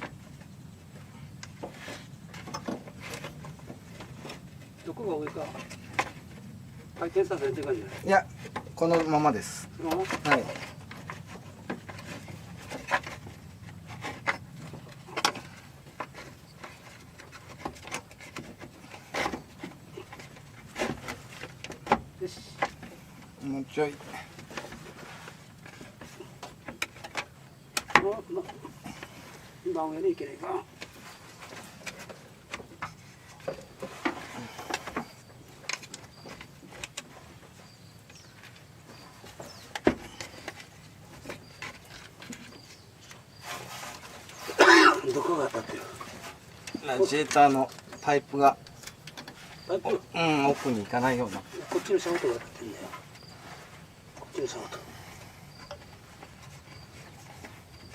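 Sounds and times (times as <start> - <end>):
fan assembly knocking and scraping: 0.0 - 57.9.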